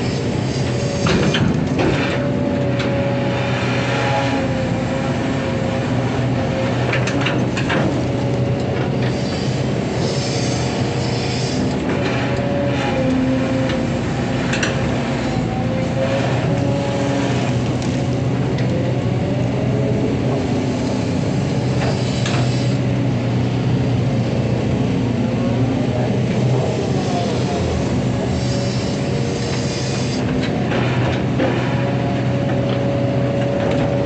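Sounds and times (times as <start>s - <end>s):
diesel engine running: 0.0s - 34.0s
hydraulic whine: 0.0s - 34.0s.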